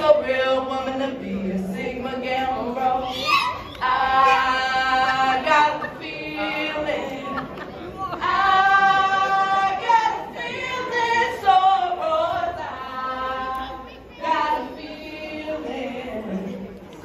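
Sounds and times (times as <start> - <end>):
women singing a cappella: 0.0 - 17.0.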